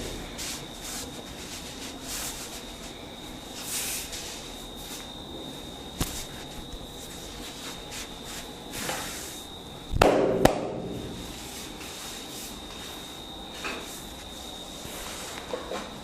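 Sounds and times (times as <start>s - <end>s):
faint steady high whine: 0.0s - 16.0s.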